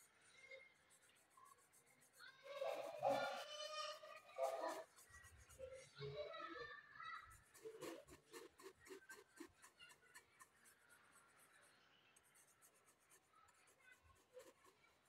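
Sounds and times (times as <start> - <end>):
pencil scratching on paper: 0.0 - 6.4, 7.1 - 15.0.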